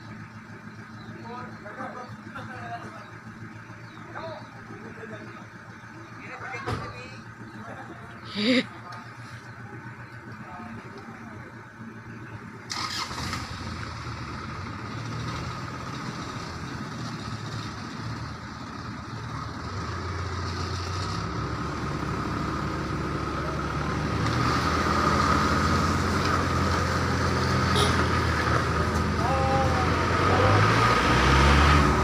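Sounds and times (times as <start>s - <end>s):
vehicle engines running under load: 0.0s - 32.0s.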